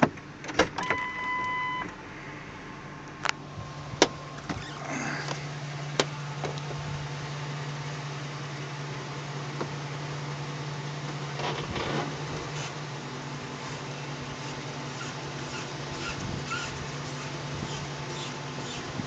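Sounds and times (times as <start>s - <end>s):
truck engine humming: 1.4s - 19.0s.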